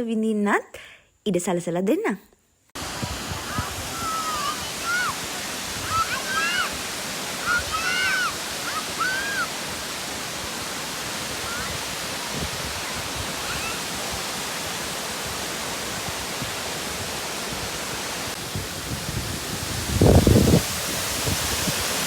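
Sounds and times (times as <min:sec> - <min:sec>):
waterfall rushing: 0:02.8 - 0:22.0.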